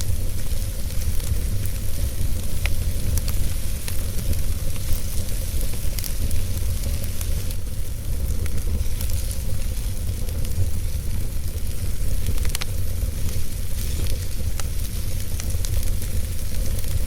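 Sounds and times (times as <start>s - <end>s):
fire rumble and hiss: 0.0s - 17.0s
wood fire crackling and popping: 0.0s - 17.0s.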